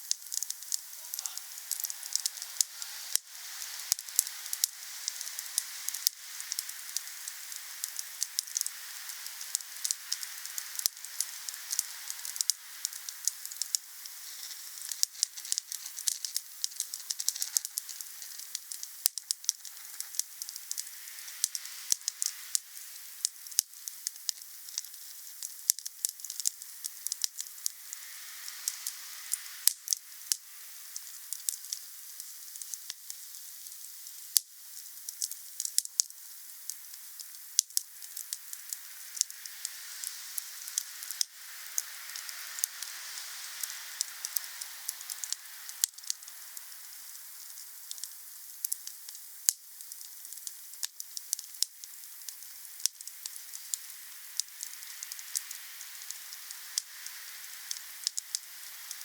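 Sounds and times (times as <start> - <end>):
wood fire crackling and popping: 0.0 - 28.0, 28.6 - 59.0.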